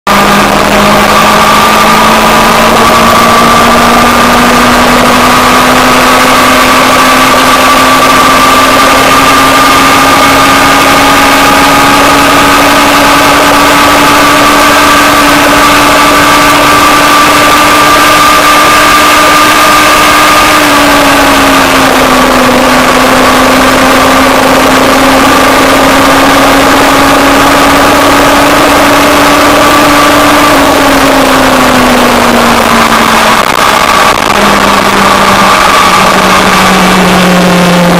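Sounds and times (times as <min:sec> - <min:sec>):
motorcycle engine running: 0:00.0 - 0:37.9
steady rushing noise: 0:00.0 - 0:37.9.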